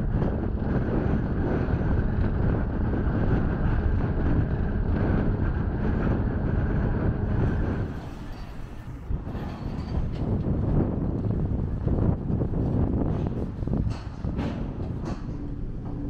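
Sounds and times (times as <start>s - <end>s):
ship engine low rumble: 0.0s - 16.0s
wind buffeting microphone: 0.0s - 16.0s.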